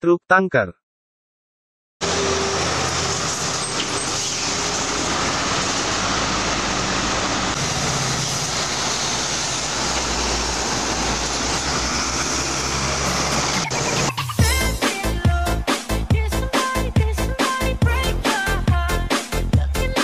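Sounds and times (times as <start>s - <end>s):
road noise: 2.0s - 18.7s
truck diesel engine passing: 2.0s - 19.0s.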